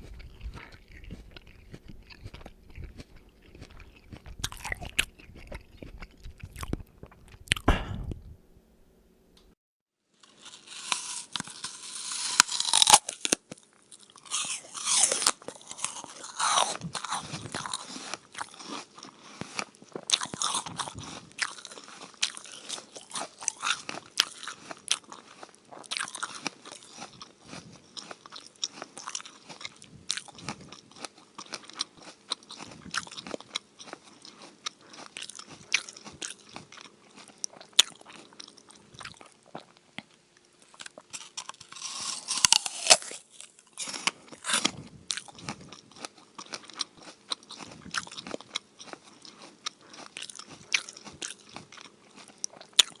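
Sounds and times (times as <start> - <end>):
crunching apple chewing: 0.0 - 8.2, 10.2 - 53.0.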